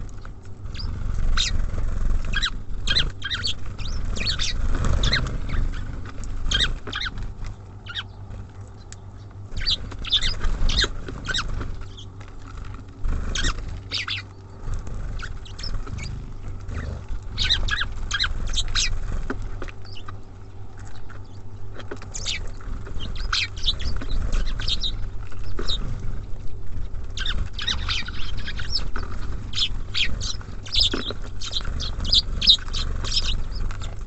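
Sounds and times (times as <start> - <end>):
birds pecking on feeder: 0.0 - 34.0
songbirds chirping: 0.0 - 34.0.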